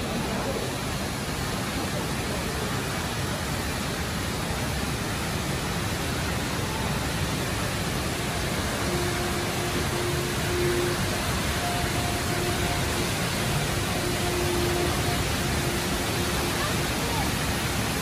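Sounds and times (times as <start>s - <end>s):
indoor waterfall rushing: 0.0s - 18.0s.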